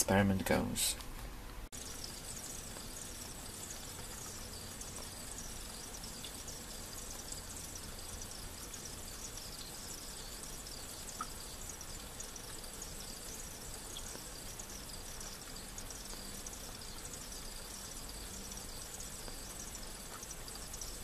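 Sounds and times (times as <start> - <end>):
onions sizzling in a pan: 1.8 - 21.0.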